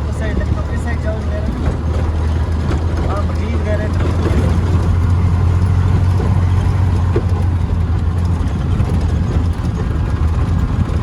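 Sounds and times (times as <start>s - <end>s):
road noise: 0.0s - 11.0s
vehicle engine droning: 0.0s - 11.0s.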